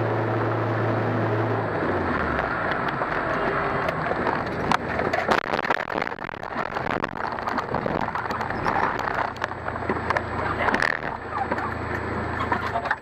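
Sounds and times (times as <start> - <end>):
vehicle noise: 0.0 - 13.0.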